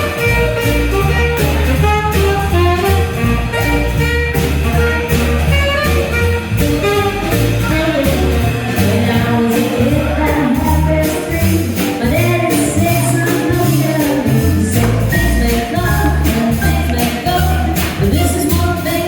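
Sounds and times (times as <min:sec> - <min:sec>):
swing jazz band playing: 0:00.0 - 0:19.0.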